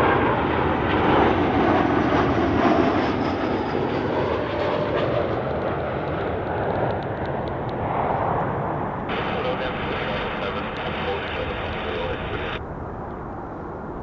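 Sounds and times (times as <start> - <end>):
jet airliner engines rushing: 0.0 - 14.0.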